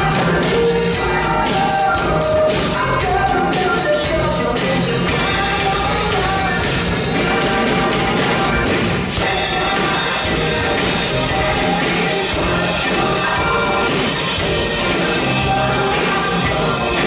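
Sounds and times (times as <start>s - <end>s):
drum kit playing groove: 0.0s - 17.0s
pop backing track with singing: 0.0s - 17.0s.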